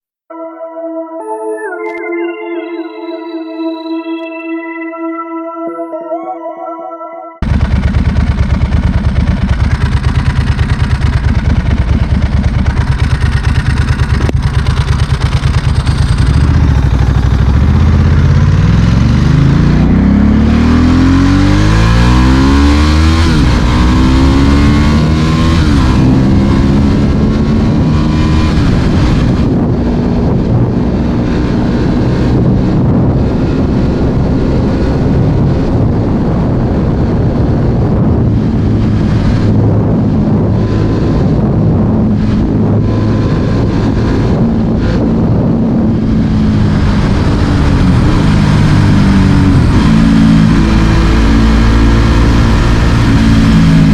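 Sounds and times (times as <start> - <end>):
motorcycle engine revving: 7.4 - 53.9.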